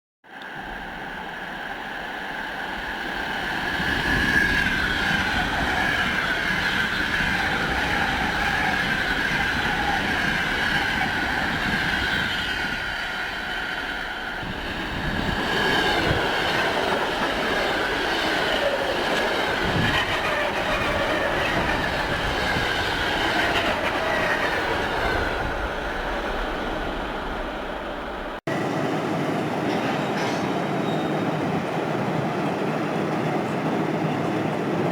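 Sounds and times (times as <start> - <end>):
train rumbling on rails: 0.3 - 34.9.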